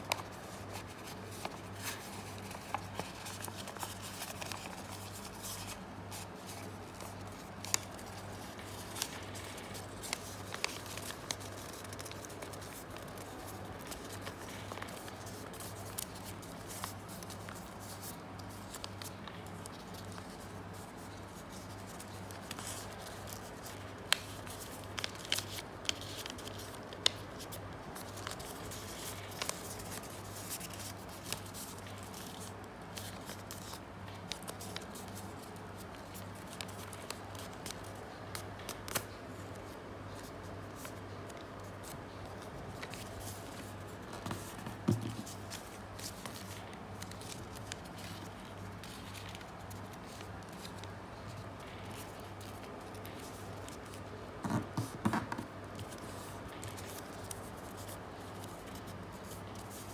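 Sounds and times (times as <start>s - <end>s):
paper rustling and crackling: 0.0s - 59.9s.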